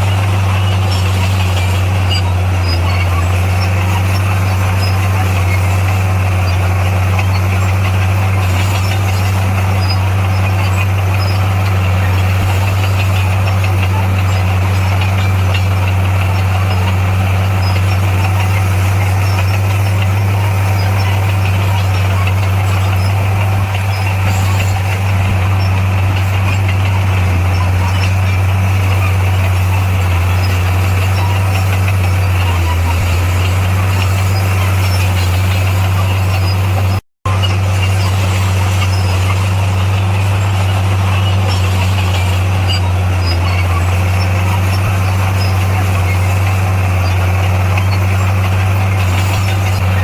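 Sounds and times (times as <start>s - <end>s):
heavy diesel engine droning: 0.0s - 50.0s
mechanical clatter: 0.0s - 50.0s.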